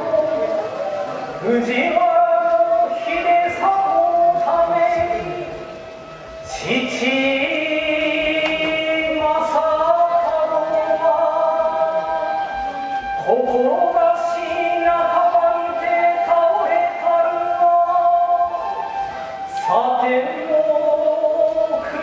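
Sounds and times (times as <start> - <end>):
chant in long held notes: 0.0 - 22.0.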